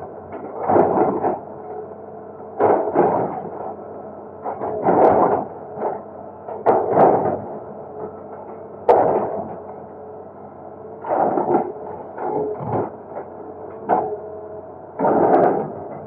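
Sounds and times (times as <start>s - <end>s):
excavator running: 0.0s - 16.0s.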